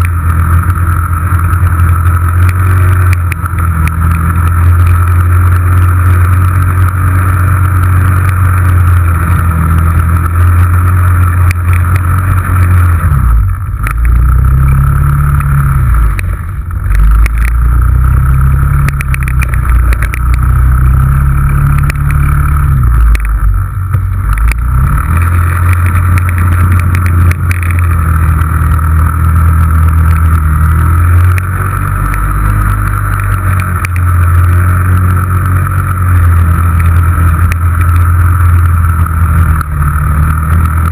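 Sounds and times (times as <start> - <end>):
engine revving: 0.0 - 40.9.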